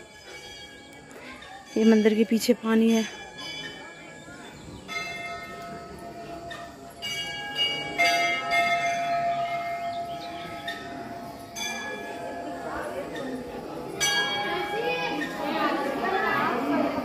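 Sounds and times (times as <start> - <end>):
temple bells ringing: 0.0 - 17.0.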